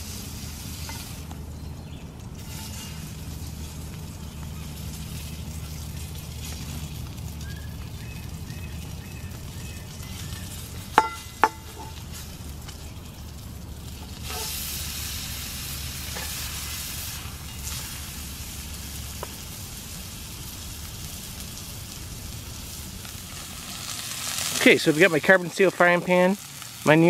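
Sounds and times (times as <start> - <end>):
steak sizzling in frying pan: 2.4 - 27.0.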